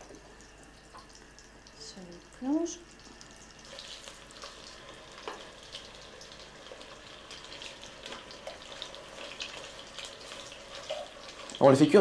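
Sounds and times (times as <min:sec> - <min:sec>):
small crackles: 0:00.0 - 0:11.8
meat sizzling in butter: 0:01.5 - 0:12.0.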